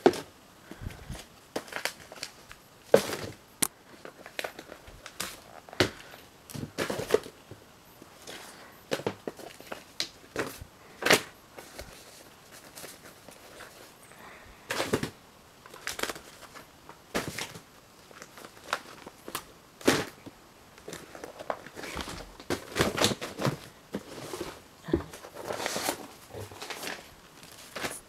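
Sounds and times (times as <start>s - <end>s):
household items rustling and crinkling: 0.0s - 28.0s.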